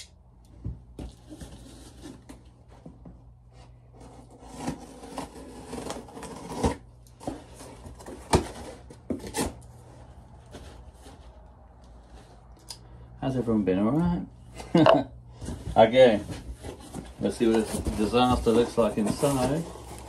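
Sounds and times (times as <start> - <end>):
cardboard scraping and rustling: 1.0 - 12.5, 15.4 - 20.0.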